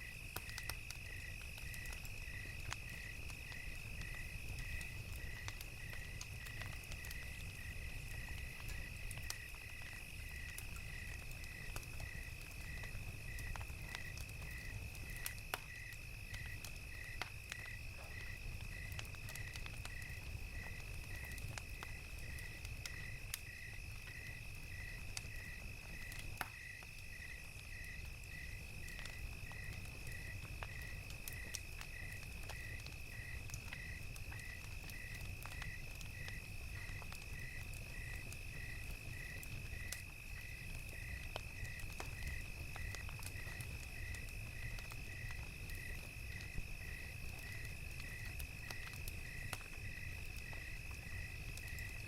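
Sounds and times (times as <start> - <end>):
campfire crackling and popping: 0.0 - 52.0
crickets chirping: 0.0 - 52.0.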